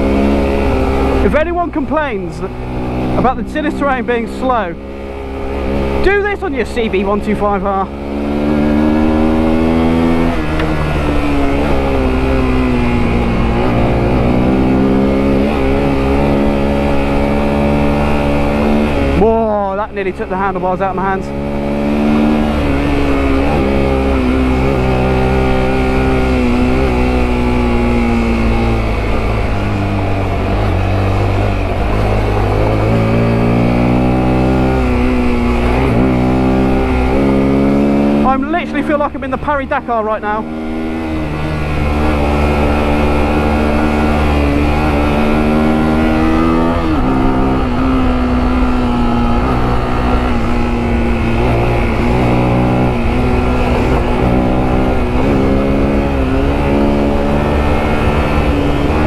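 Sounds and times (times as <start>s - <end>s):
motorcycle engine under load: 0.0s - 59.0s
wind and tyre rumble: 0.0s - 59.0s.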